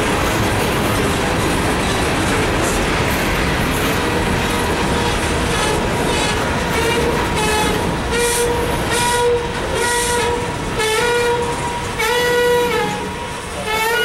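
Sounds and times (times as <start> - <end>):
train wheels rumbling and clacking: 0.0 - 14.0.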